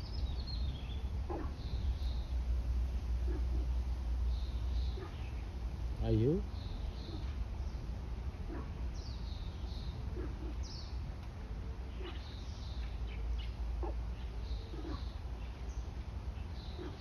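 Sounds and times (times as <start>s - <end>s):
birds chirping: 0.0s - 2.6s, 3.2s - 17.0s
low steady rumble: 0.0s - 17.0s.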